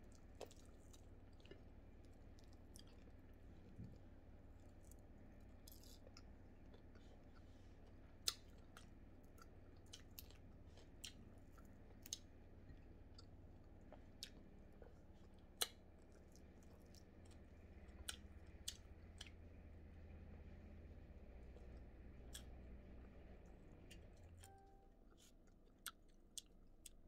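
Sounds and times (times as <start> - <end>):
crunchy chewing: 0.0 - 20.6, 21.3 - 24.1, 25.1 - 27.0
faint low hum: 0.0 - 27.0.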